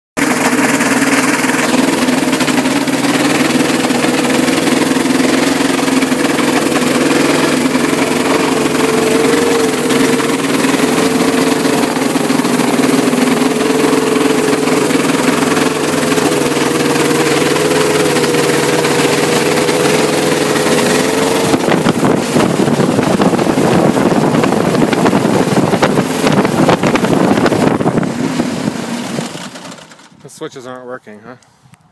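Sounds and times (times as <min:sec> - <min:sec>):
aircraft engine running: 0:00.2 - 0:30.3.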